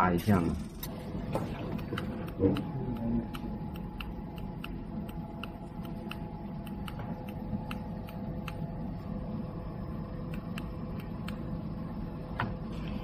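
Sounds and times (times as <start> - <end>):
electrical hum of a machine: 0.0 - 13.0.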